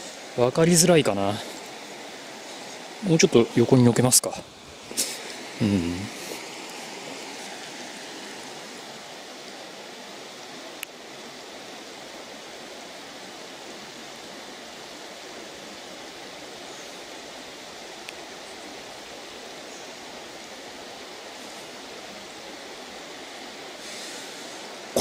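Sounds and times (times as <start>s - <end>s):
river flowing over rocks: 0.0s - 25.0s.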